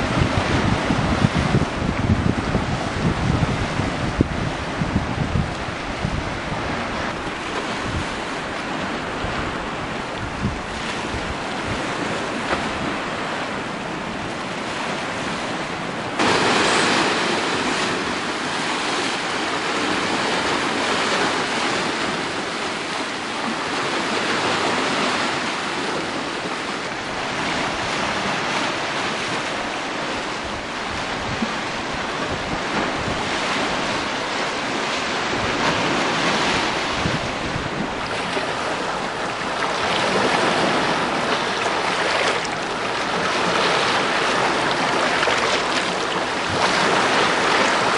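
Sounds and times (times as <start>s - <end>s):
surf breaking over rocks: 0.0s - 47.9s
wind rumbling on microphone: 0.0s - 47.9s.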